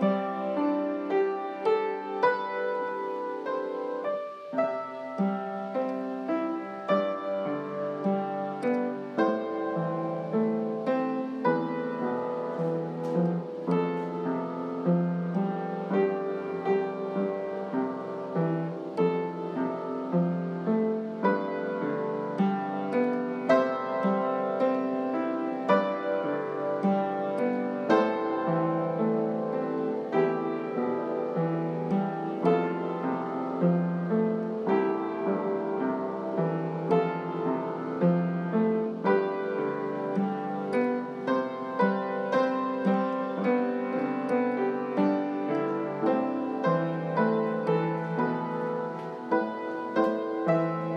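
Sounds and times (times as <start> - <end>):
slow piano melody: 0.0 - 50.9.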